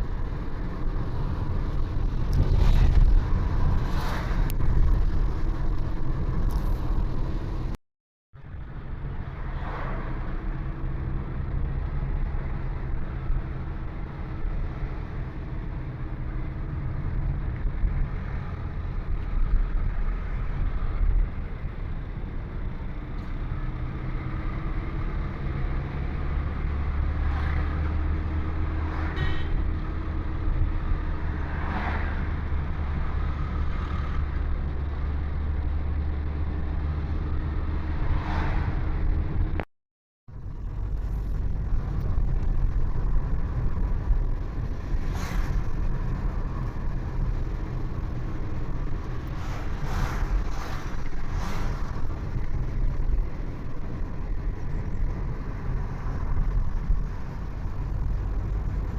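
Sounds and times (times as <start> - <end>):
vehicle engine: 0.0 - 7.8, 8.4 - 39.7, 40.3 - 58.9
road noise: 0.0 - 39.7, 40.3 - 58.9.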